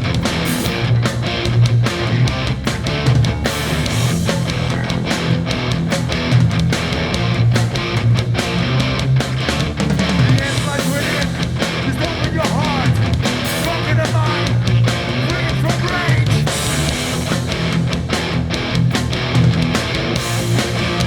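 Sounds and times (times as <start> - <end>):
bass guitar: 0.0 - 21.0
distorted electric guitars: 0.0 - 21.0
drums: 0.0 - 21.0.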